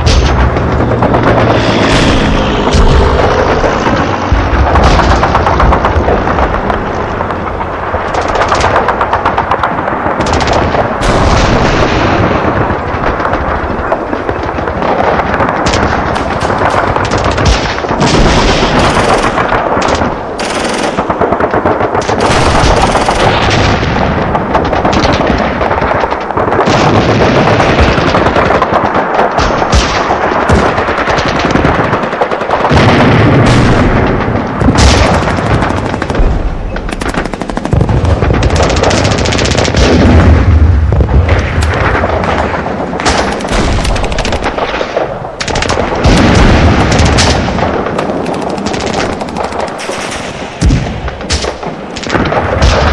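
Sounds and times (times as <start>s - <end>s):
heavy low rumble: 0.0s - 28.0s, 32.7s - 52.9s
gunshots: 0.0s - 52.9s
machine-gun fire: 0.0s - 52.9s.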